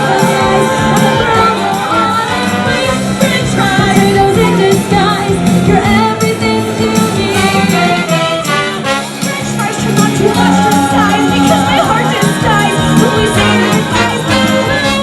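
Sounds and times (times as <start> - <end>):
female vocal group singing: 0.0 - 8.2, 9.2 - 15.0
instrumental backing music: 0.0 - 15.0.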